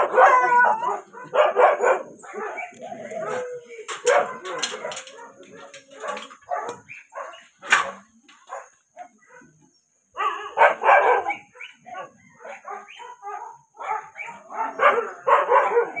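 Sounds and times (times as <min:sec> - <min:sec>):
dogs barking: 0:00.0 - 0:16.0.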